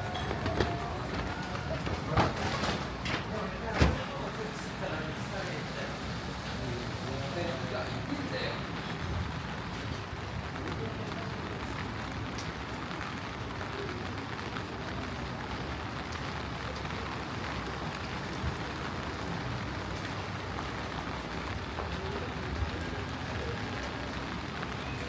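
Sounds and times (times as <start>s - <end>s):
steady rain on street: 0.0s - 25.0s.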